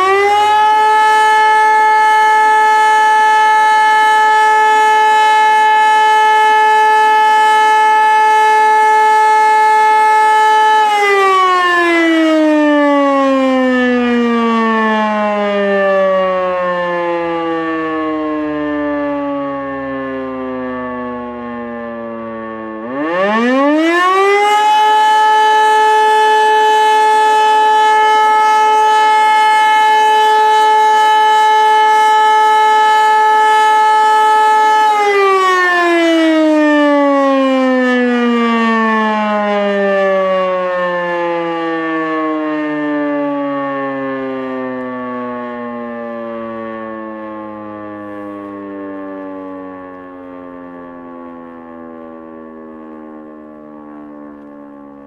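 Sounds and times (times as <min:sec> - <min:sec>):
electromechanical siren wailing: 0:00.0 - 0:55.0.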